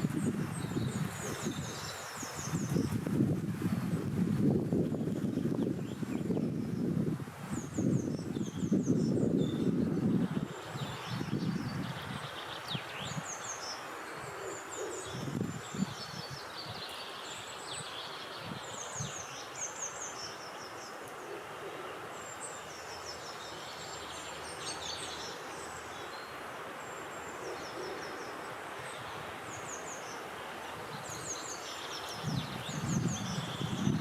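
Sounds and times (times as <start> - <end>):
wind hush: 0.0 - 22.8, 26.3 - 34.0
songbirds singing: 0.0 - 34.0.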